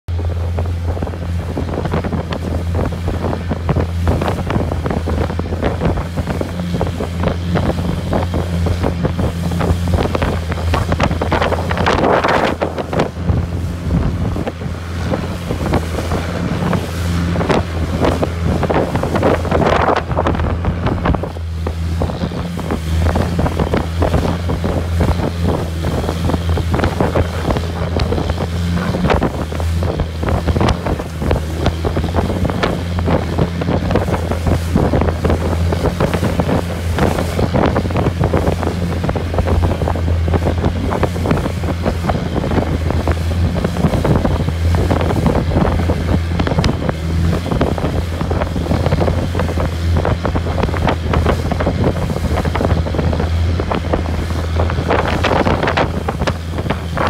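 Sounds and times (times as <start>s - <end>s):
boat engine droning: 0.0s - 57.0s
water rushing along hull: 0.0s - 57.0s
wind buffeting microphone: 0.1s - 57.0s.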